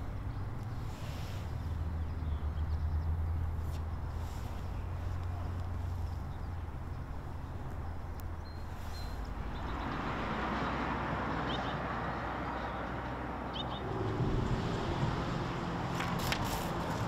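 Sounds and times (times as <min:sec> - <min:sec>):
car engine hum: 0:00.0 - 0:17.0
tyre and road noise: 0:00.0 - 0:17.0.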